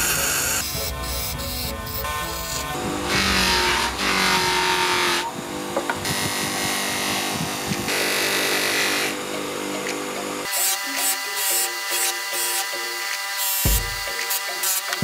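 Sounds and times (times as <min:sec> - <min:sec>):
blade grinding with hiss: 0:00.0 - 0:05.4, 0:06.0 - 0:15.0
bench grinder running: 0:00.0 - 0:15.0.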